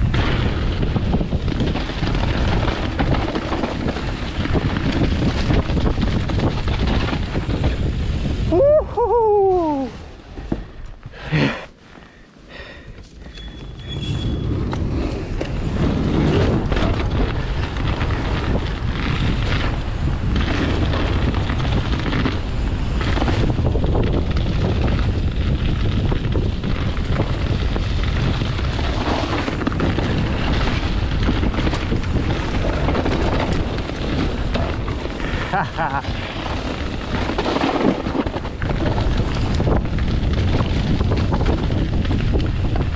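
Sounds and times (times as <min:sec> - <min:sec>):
wind buffeting microphone: 0:00.0 - 0:11.6, 0:12.5 - 0:42.9
bike rattling: 0:00.0 - 0:42.9
bike tyres rumbling: 0:00.0 - 0:42.9.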